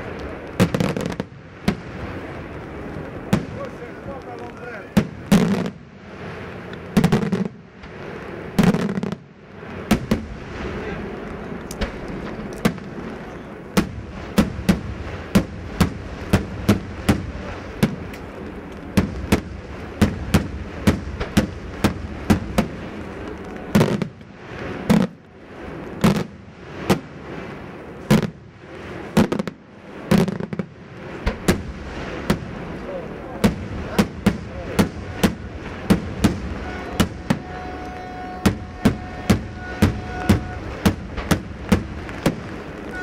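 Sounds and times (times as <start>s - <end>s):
fireworks bangs: 0.0s - 43.0s.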